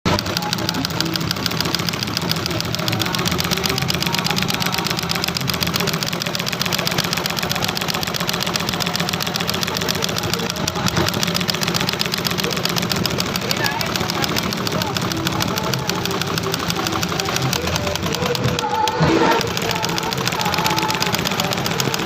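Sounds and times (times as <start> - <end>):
sewing machine stitching: 0.0 - 22.0.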